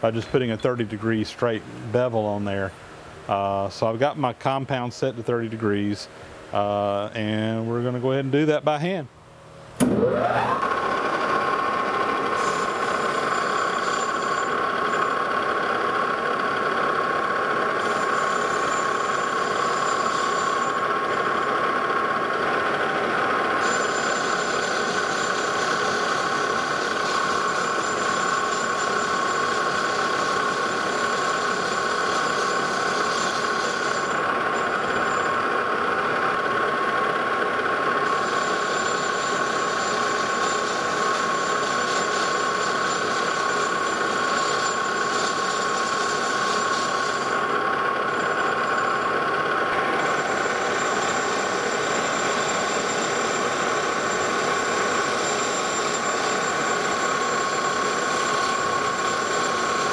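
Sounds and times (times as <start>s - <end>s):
metal lathe whining: 9.8s - 59.9s.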